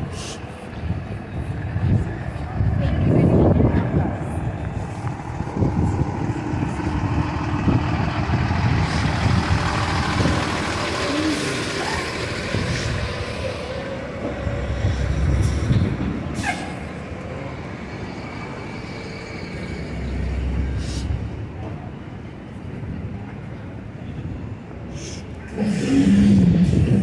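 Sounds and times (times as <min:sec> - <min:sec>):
vehicle engines rumbling: 0:00.0 - 0:27.0.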